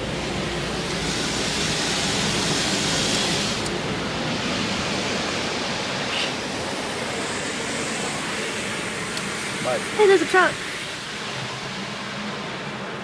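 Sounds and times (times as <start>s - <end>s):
water jets spraying on car: 0.0s - 13.0s.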